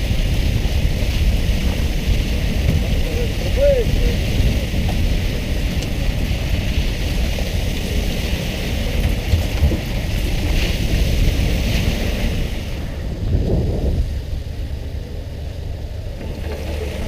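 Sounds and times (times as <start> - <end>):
continuous low rumble: 0.0 - 17.0.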